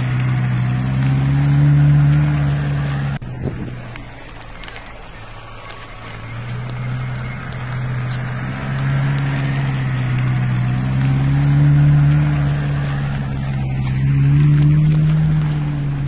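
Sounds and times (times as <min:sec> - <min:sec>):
off-road vehicle engine driving: 0:00.0 - 0:16.0.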